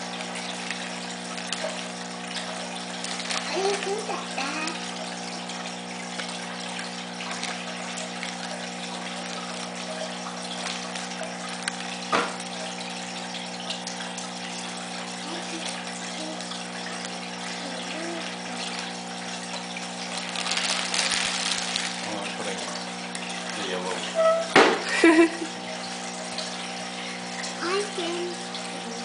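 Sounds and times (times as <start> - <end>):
aquarium pump humming: 0.0 - 29.0
water splashing: 0.0 - 29.0.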